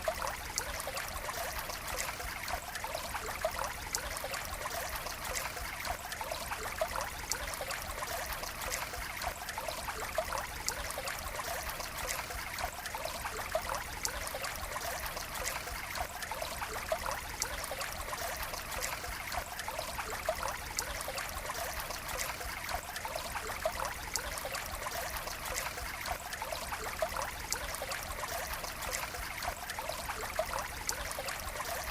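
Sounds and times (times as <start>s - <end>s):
water drips and plops: 0.0s - 31.9s
water trickling: 0.0s - 31.9s.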